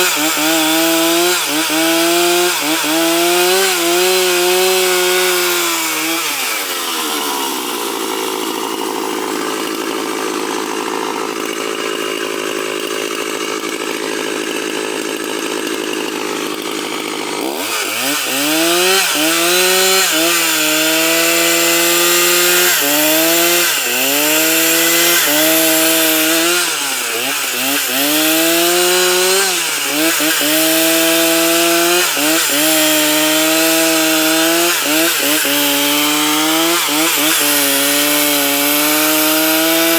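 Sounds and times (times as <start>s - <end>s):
chainsaw cutting wood: 0.0s - 39.9s
chainsaw revving and idling: 0.0s - 39.9s.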